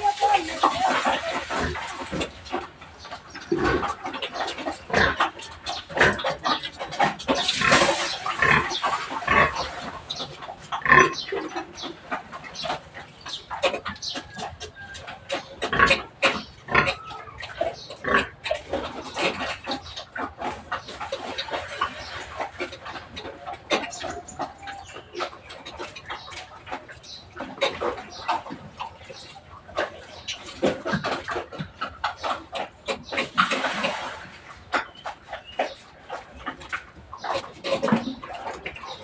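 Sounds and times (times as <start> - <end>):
pigs grunting and squealing: 0.0 - 39.0.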